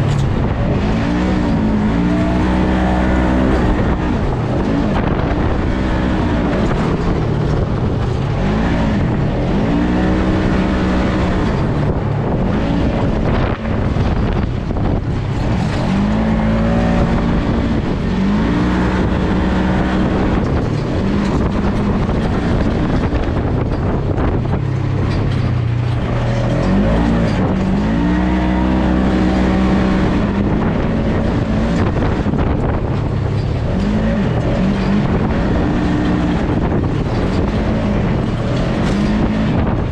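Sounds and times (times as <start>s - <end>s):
constant rushing noise: 0.0s - 39.9s
off-road vehicle engine revving: 0.0s - 39.9s.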